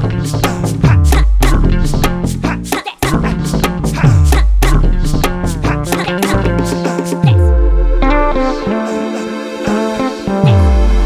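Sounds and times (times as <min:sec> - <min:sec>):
plucked guitar music with bass: 0:00.0 - 0:11.0.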